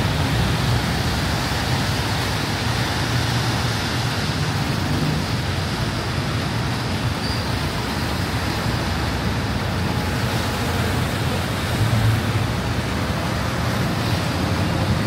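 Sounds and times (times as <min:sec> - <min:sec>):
heavy rain falling: 0:00.0 - 0:15.0
road traffic rumble: 0:00.0 - 0:15.0.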